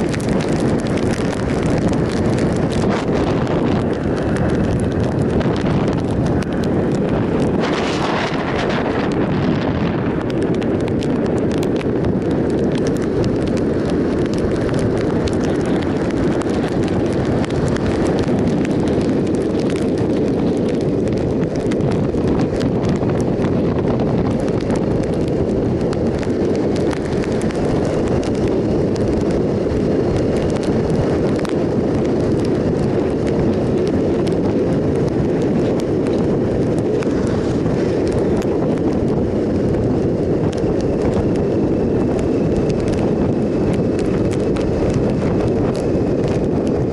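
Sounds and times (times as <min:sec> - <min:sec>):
motorcycle engine: 0:00.0 - 0:46.9
tyres on wet tarmac: 0:00.0 - 0:46.9
wind buffeting microphone: 0:00.0 - 0:46.9.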